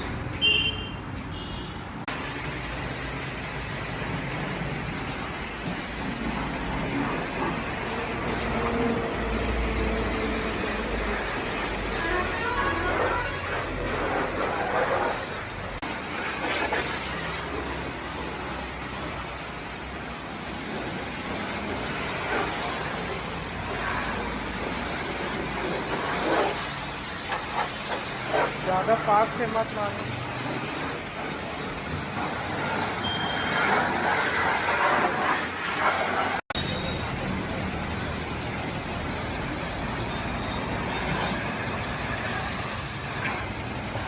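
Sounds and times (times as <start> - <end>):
pressure washer spraying water: 2.0 - 44.0.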